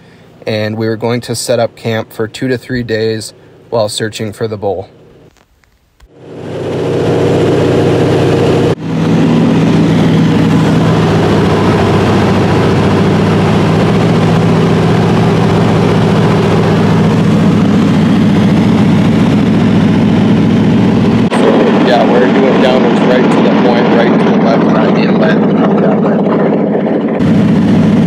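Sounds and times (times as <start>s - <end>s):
plane engine and propeller droning: 0.0s - 5.3s, 6.1s - 28.0s.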